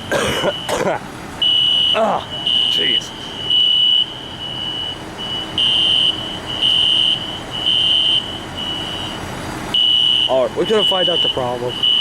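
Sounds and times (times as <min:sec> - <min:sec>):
fire alarm pulsing tone: 0:01.4 - 0:09.2, 0:09.8 - 0:12.0.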